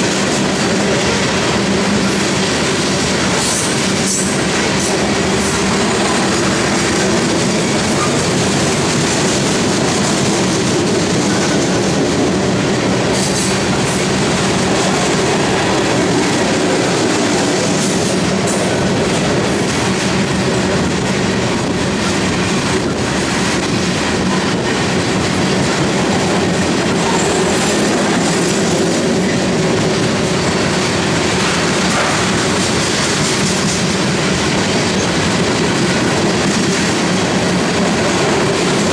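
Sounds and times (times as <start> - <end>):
train wheels rumbling on rail: 0.0 - 38.9
wheels clacking on track: 0.0 - 38.9.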